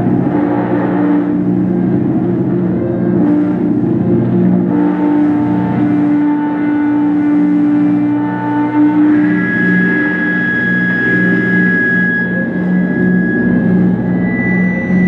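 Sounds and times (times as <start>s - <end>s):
experimental drone music: 0.0s - 15.0s.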